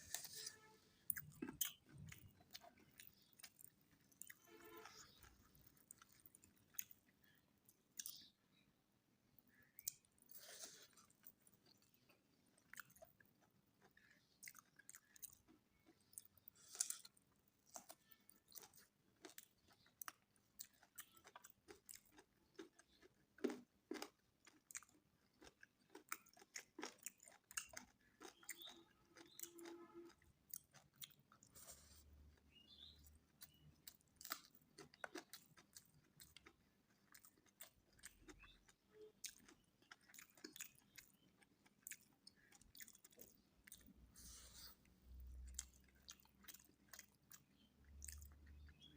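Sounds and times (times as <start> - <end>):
close-up chewing: 0.0 - 8.3, 9.5 - 48.9.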